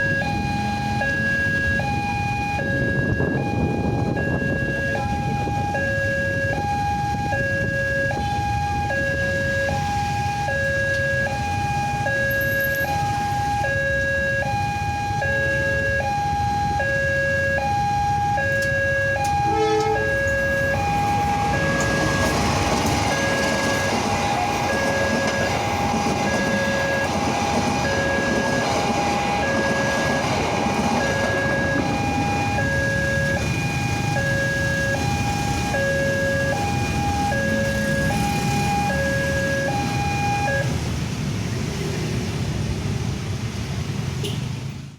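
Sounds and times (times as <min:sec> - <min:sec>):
two-tone level crossing alarm: 0:00.0 - 0:40.8
passing train rushing noise: 0:00.0 - 0:44.9.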